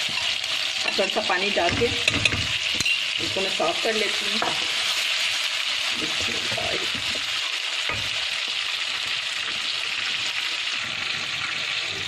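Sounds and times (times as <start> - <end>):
gravy sizzling in a pan: 0.0 - 12.0.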